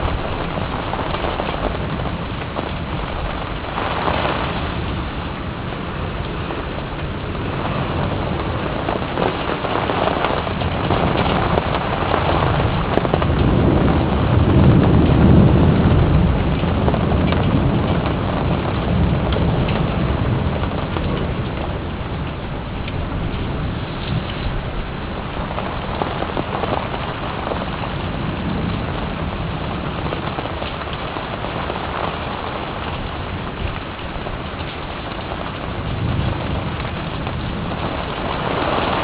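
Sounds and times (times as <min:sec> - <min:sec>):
low rumble: 0:00.0 - 0:39.0
rain falling: 0:00.0 - 0:39.0.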